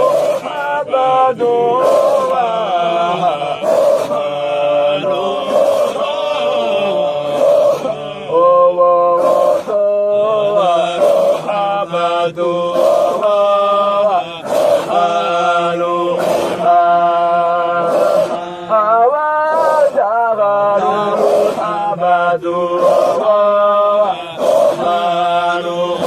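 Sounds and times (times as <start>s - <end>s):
voices chanting long notes: 0.0s - 26.0s.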